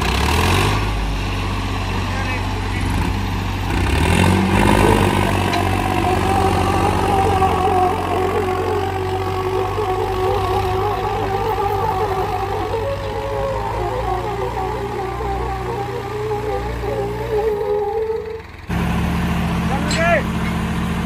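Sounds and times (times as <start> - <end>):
tractor engines straining: 0.0 - 21.0.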